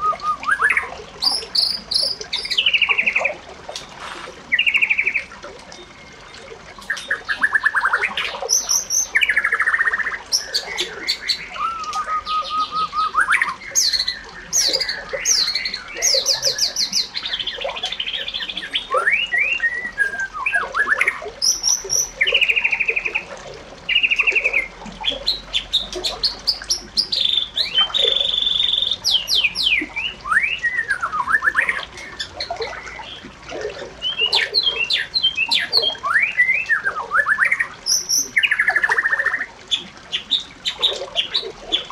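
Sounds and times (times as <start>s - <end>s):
bird song: 0.0s - 3.9s, 4.5s - 23.3s, 23.9s - 41.9s.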